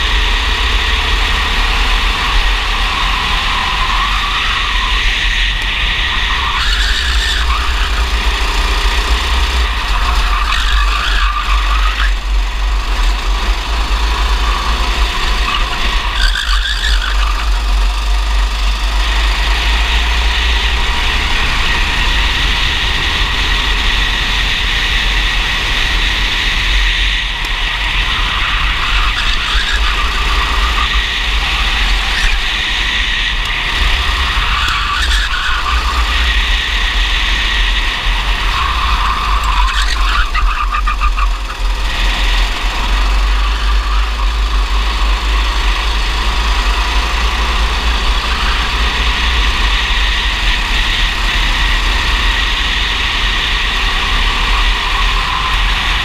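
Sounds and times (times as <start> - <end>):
kart engine running hard: 0.0 - 56.0
wind and vibration rumble: 0.0 - 56.0.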